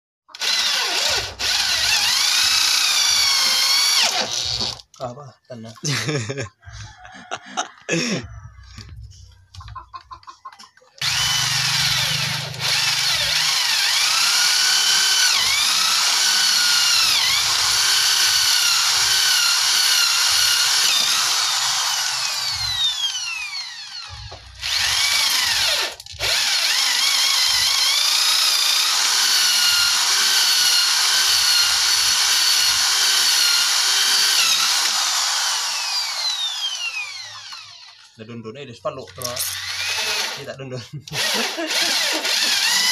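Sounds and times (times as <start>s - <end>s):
electric drill boring into wood: 0.3s - 4.9s, 11.0s - 38.2s, 39.2s - 40.5s, 41.1s - 42.9s.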